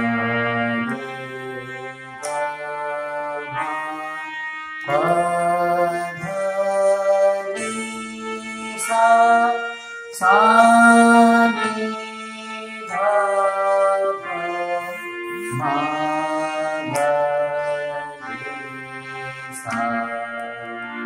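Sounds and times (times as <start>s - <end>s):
instrumental accompaniment: 0.0s - 21.0s
man singing held notes: 0.0s - 21.0s.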